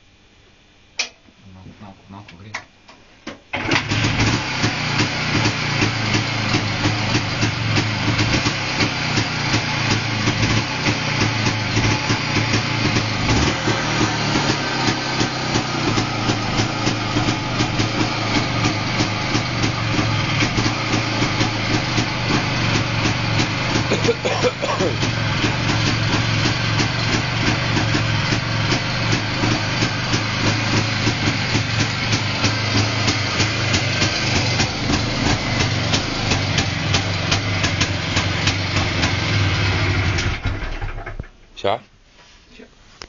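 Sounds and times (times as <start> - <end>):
motorcycle two-stroke engine running: 3.6 - 41.2.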